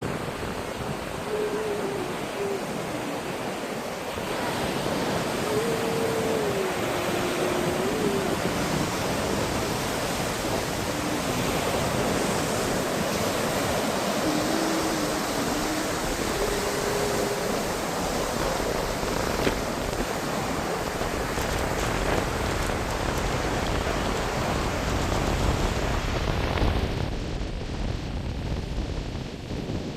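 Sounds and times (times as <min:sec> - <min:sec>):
ocean surf washing on beach: 0:00.0 - 0:29.9.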